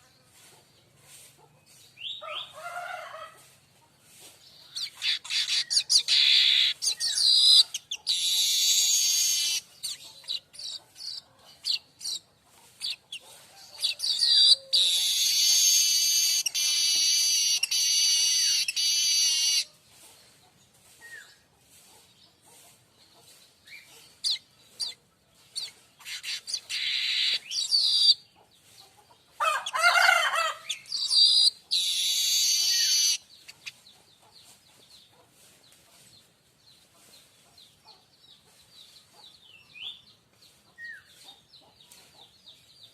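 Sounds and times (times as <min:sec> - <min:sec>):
bird chirping and singing: 0:01.7 - 0:02.5, 0:04.4 - 0:20.4, 0:22.0 - 0:28.8, 0:30.5 - 0:35.1, 0:36.7 - 0:42.9.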